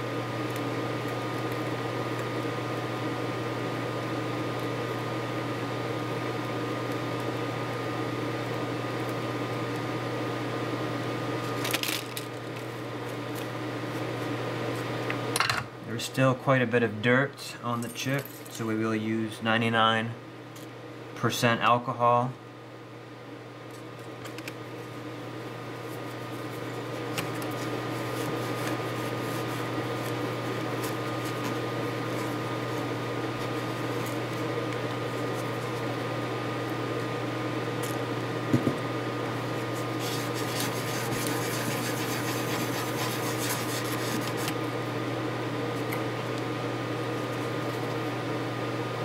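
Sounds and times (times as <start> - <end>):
machine hum with whine: 0.0 - 49.0.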